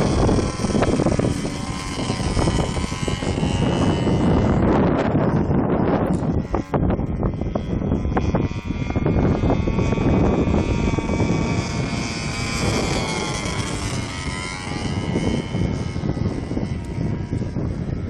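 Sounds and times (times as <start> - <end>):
model plane motor whine: 0.0 - 18.0
wind buffeting microphone: 0.0 - 18.0.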